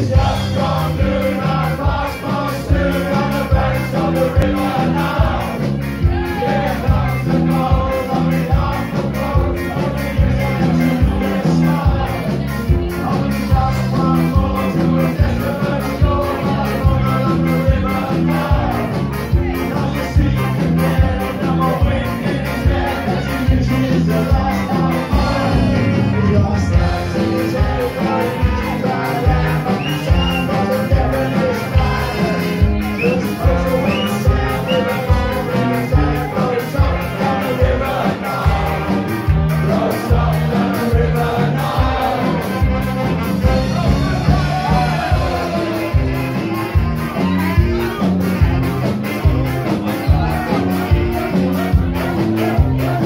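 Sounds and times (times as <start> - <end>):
live band playing upbeat music: 0.0 - 53.0.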